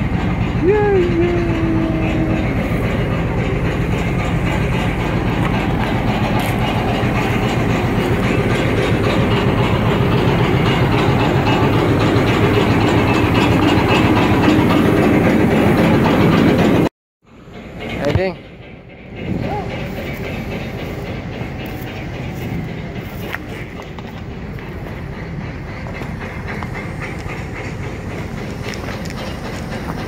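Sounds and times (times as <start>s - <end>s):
diesel locomotive engine running: 0.0s - 30.0s.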